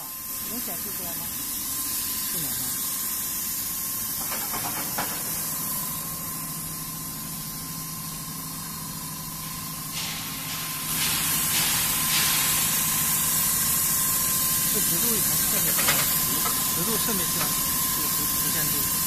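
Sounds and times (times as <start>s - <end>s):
machine hiss: 0.0s - 19.0s.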